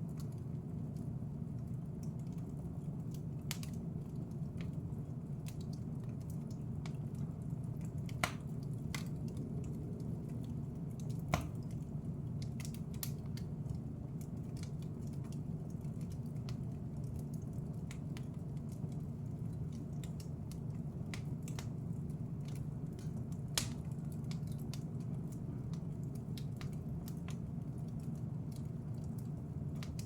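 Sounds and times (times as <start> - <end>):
fire crackling: 0.0 - 30.0
low rumble of flames: 0.0 - 30.0.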